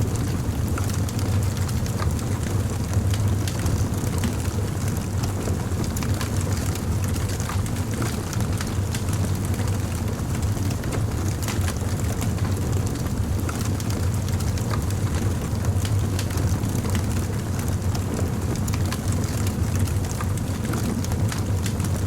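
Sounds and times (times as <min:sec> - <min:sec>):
burning wood crackling: 0:00.0 - 0:22.0
fire flames rumbling: 0:00.0 - 0:22.0.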